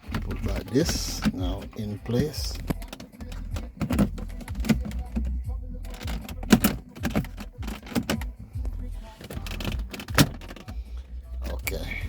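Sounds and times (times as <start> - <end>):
plastic trim clicks and knocks: 0.0 - 8.4, 9.2 - 10.8.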